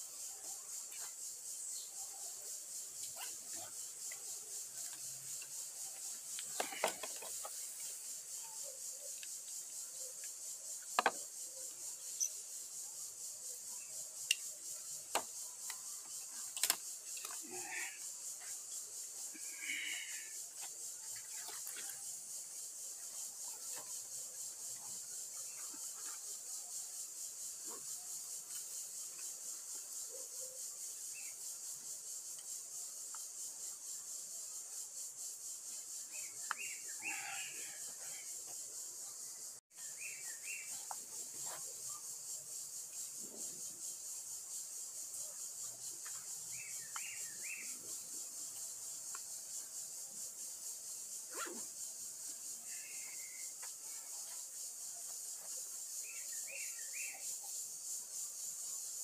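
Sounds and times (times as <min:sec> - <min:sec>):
pulsing insect drone: 0:00.0 - 0:59.0.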